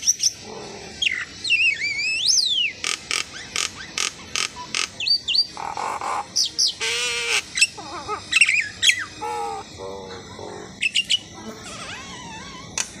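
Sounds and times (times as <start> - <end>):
starling singing: 0.0 - 13.0.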